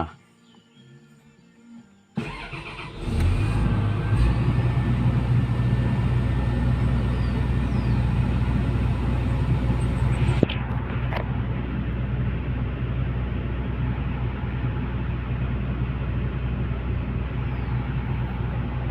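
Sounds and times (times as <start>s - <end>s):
diesel engine starting and running: 2.2s - 18.9s.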